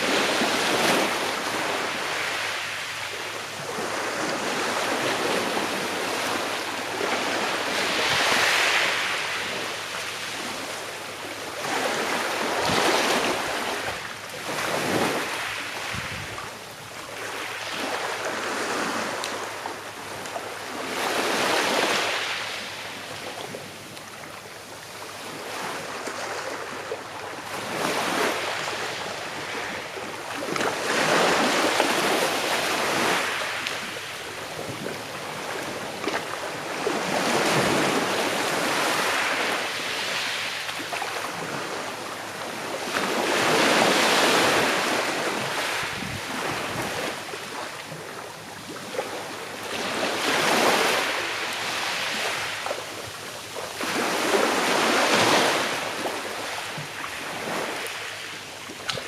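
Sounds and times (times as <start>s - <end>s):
calm sea waves breaking: 0.0s - 59.0s.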